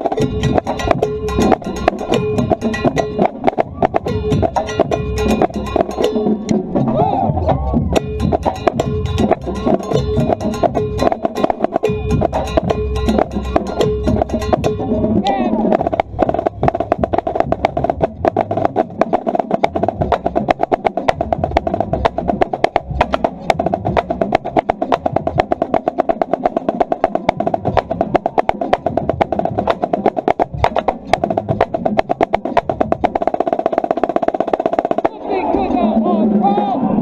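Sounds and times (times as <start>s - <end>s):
low drum pulse: 0.0s - 36.4s.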